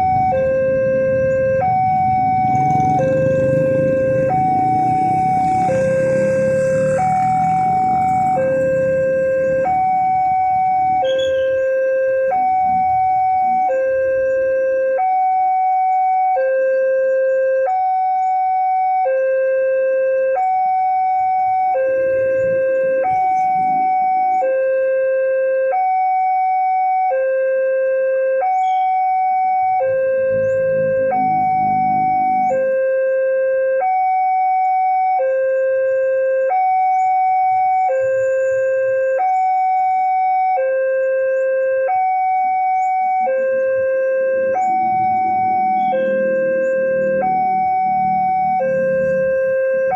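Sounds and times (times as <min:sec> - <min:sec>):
two-tone level-crossing alarm: 0:00.0 - 0:49.9.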